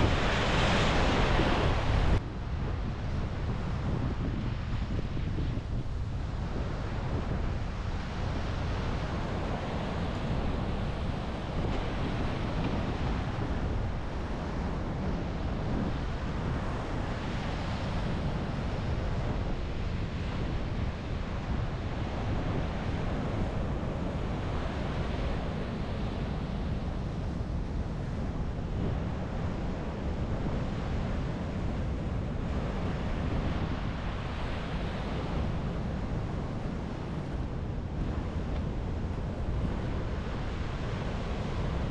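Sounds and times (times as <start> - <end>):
waves breaking on beach: 0.0 - 41.9
wind rumbling on microphone: 0.0 - 41.9.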